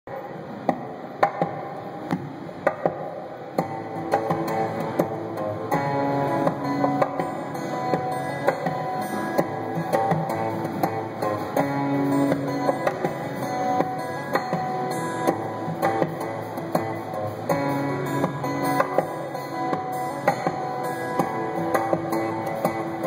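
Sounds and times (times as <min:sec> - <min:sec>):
acoustic guitar fingerstyle: 0:00.2 - 0:23.0.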